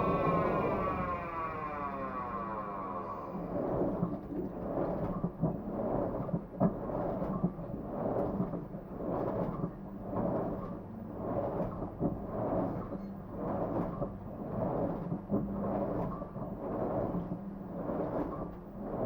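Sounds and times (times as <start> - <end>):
washing machine agitating: 0.0 - 19.0
water and laundry churning: 3.1 - 19.0.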